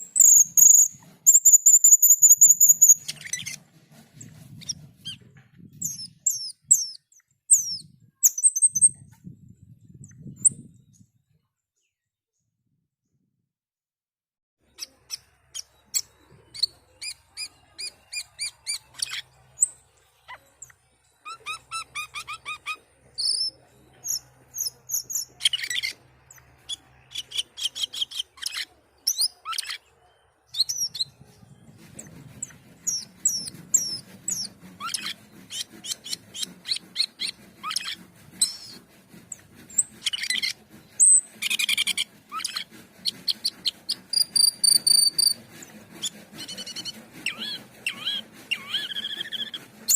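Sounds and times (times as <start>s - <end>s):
starling chirping and whistling: 0.0s - 3.6s, 4.6s - 9.0s, 14.8s - 49.9s.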